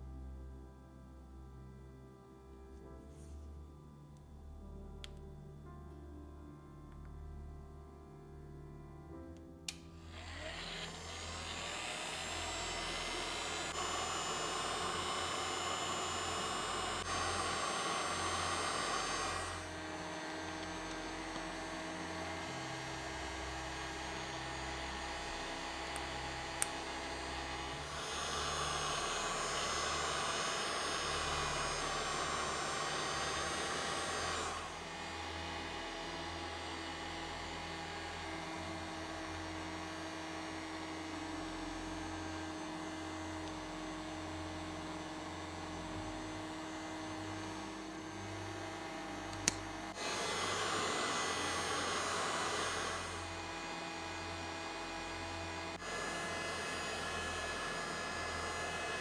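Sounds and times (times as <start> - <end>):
heat gun blowing: 9.7 - 44.6, 46.2 - 59.0.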